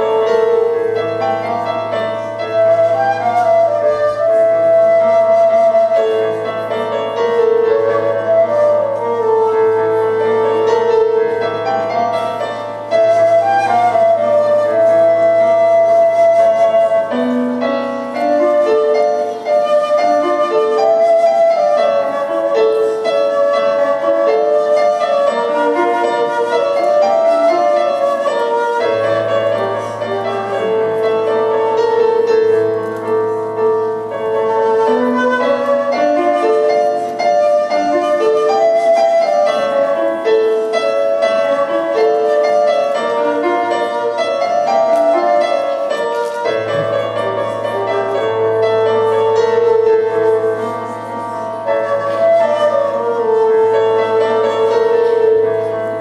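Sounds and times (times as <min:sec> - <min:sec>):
flute melody: 0:00.0 - 0:56.0
keyboard accompaniment: 0:00.0 - 0:56.0.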